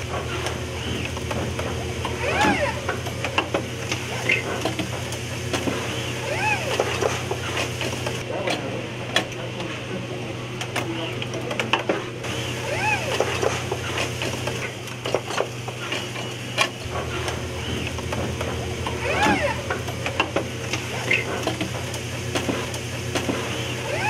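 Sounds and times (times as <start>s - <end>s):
pneumatic grippers clicking: 0.0s - 9.8s, 10.6s - 24.0s
steady machine hum: 0.0s - 24.0s.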